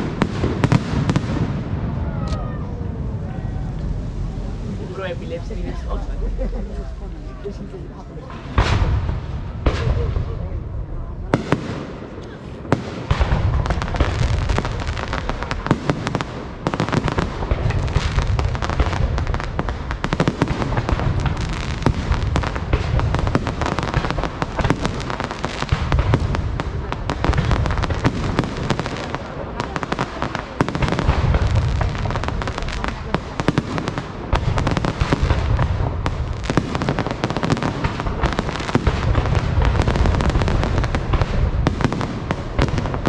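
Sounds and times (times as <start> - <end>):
fireworks booms: 0.0 - 43.0
fireworks crackling: 0.0 - 43.0.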